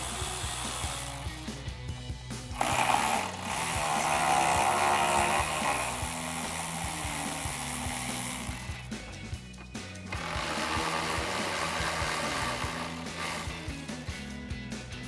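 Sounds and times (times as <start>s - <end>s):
electric ratchet clicks: 0.0s - 1.6s, 2.5s - 9.0s, 10.1s - 14.4s
electric ratchet motor running: 0.0s - 1.7s, 2.5s - 9.0s, 10.1s - 14.4s.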